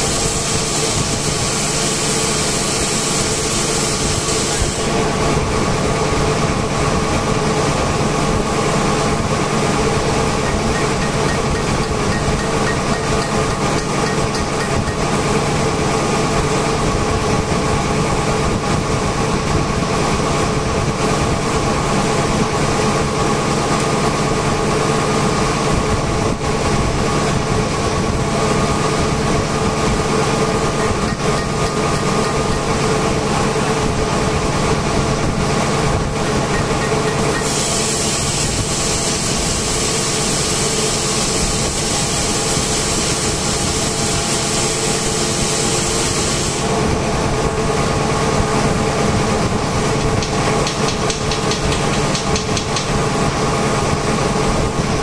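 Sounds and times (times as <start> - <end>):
industrial machinery drone: 0.0 - 55.0.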